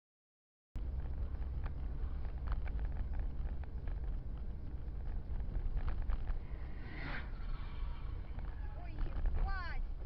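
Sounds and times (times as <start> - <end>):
car driving rumble: 0.8 - 10.0.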